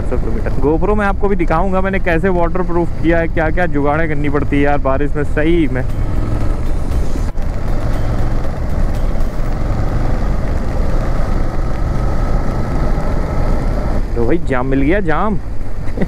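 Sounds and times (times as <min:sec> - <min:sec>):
motorcycle engine hum: 0:00.0 - 0:16.0
wind and road noise: 0:00.0 - 0:16.0.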